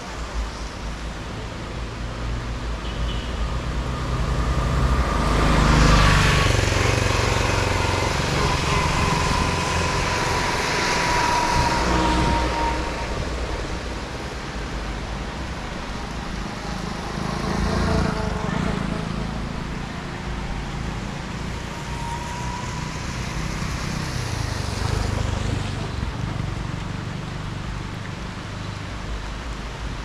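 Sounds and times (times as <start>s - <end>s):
tyres hissing on wet road: 0.0s - 30.0s.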